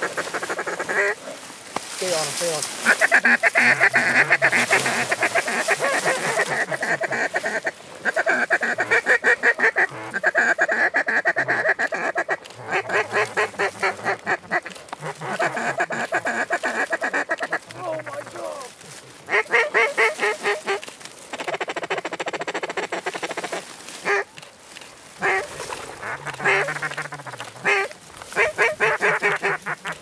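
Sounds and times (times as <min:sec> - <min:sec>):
duck quacking: 0:00.0 - 0:01.2, 0:02.8 - 0:18.7, 0:19.3 - 0:24.3, 0:25.2 - 0:30.0.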